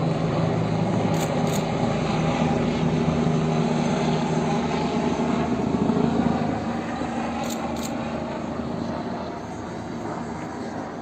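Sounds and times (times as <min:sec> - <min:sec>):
helicopter engine drone: 0:00.0 - 0:11.0
helicopter rotor chop: 0:00.0 - 0:11.0.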